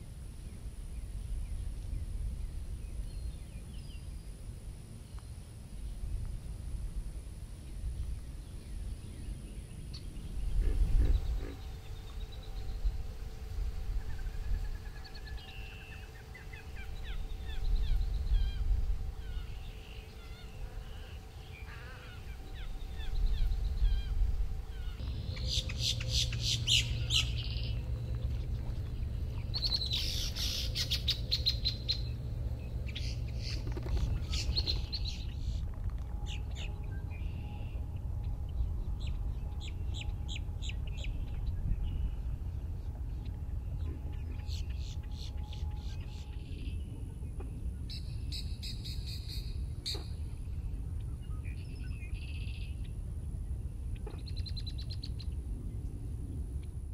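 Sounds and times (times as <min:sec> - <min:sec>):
low steady rumble: 0:00.0 - 0:56.9
birds chirping and trilling: 0:07.6 - 0:56.0.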